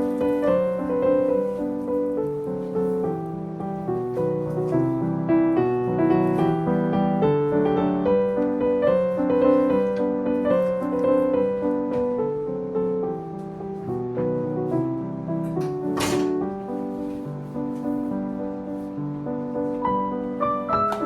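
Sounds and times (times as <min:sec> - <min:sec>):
background piano music: 0:00.0 - 0:21.0.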